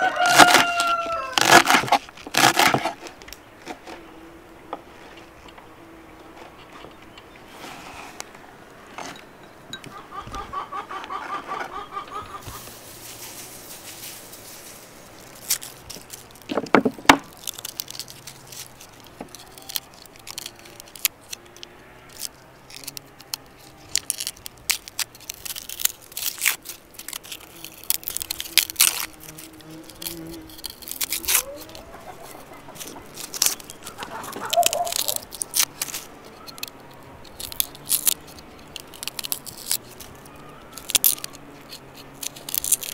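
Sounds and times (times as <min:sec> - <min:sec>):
garlic skins crackling: 0:00.0 - 0:05.5, 0:11.0 - 0:42.9.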